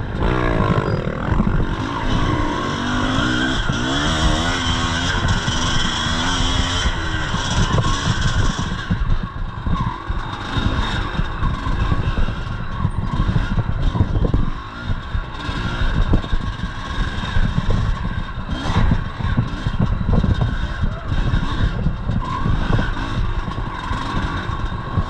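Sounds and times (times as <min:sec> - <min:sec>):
bike knocking and rattling: 0:00.0 - 0:25.0
dirt bike engine under throttle: 0:00.0 - 0:25.0.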